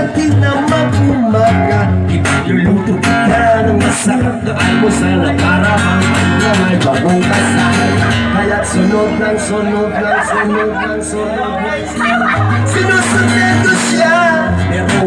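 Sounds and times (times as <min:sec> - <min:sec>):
acoustic guitar strumming: 0:00.0 - 0:15.0
person singing: 0:00.0 - 0:15.0.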